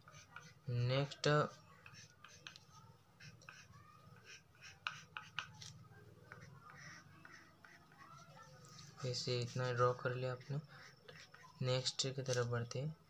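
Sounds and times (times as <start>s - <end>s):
pencil scratching on paper: 0.0s - 11.6s.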